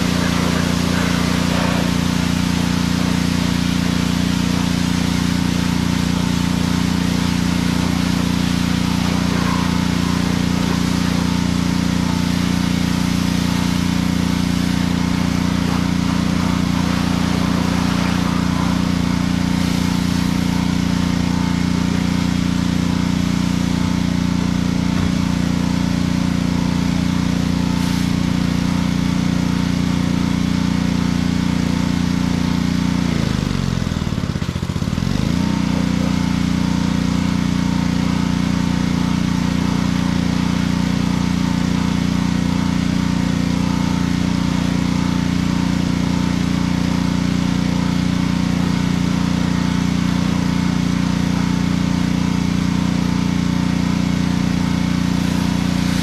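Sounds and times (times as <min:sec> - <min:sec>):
water jet hissing: 0:00.0 - 0:34.0, 0:34.6 - 0:56.0
pressure washer engine droning: 0:00.0 - 0:56.0.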